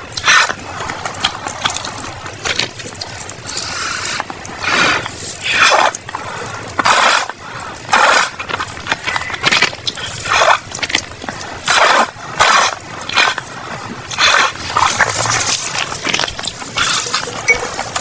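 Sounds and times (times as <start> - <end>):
chewing mouth noises: 0.0 - 18.0.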